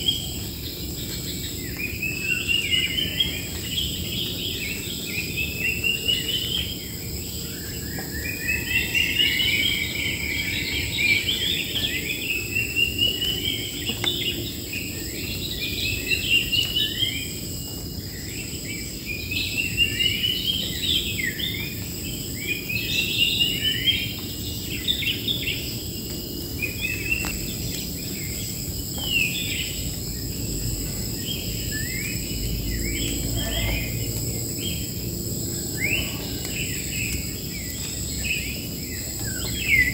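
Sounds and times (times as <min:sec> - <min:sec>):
birds singing and chirping: 0:00.0 - 0:39.9
high-pitched insect drone: 0:00.0 - 0:39.9.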